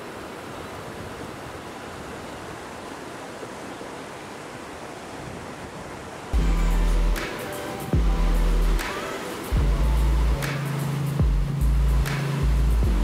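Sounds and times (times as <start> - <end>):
river rapids rushing: 0.0 - 13.0.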